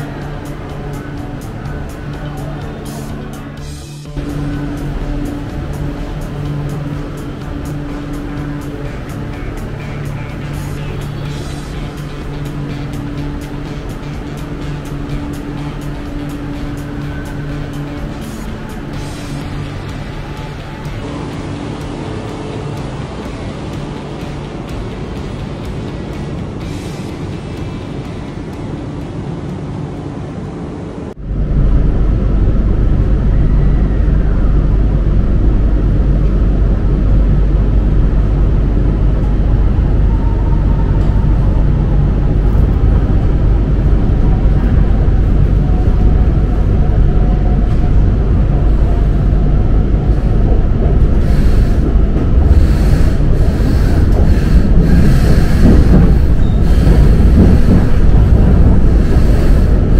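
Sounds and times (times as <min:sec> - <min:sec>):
train clatter and knocks: 0:00.0 - 0:29.6, 0:34.7 - 0:59.9
train rumbling with whine: 0:00.0 - 0:59.9.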